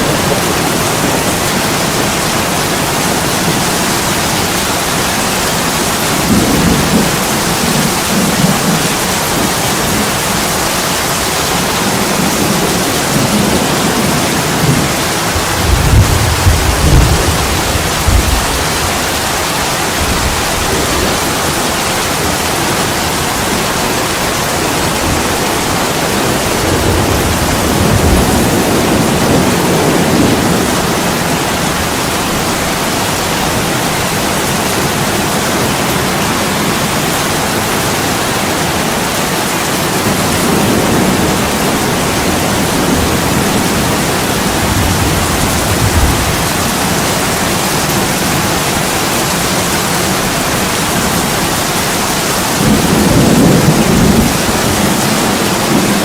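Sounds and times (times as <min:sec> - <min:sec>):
heavy rain on window and roof: 0:00.0 - 0:56.0.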